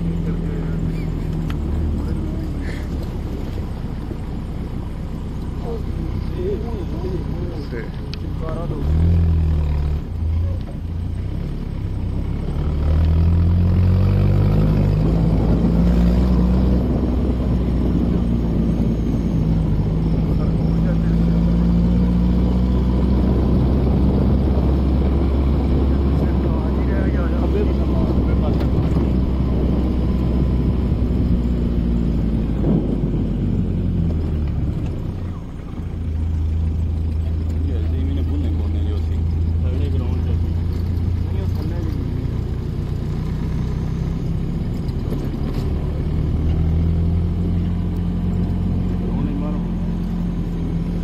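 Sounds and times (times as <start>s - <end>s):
vehicle engine droning: 0.0s - 51.0s.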